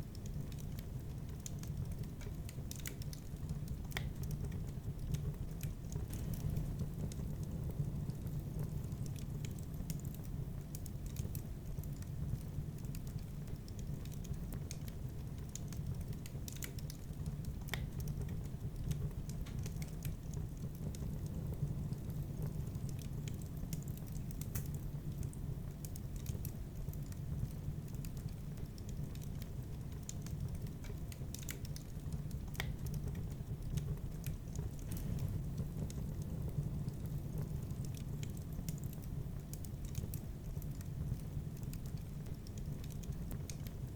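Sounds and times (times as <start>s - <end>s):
fire low rumble: 0.0s - 43.9s
wood fire crackling and popping: 0.0s - 43.9s.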